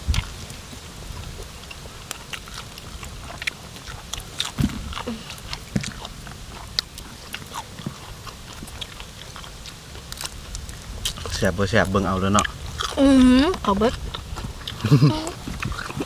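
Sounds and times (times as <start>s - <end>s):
wet mouth chewing clicks: 0.1s - 0.4s, 1.3s - 16.0s.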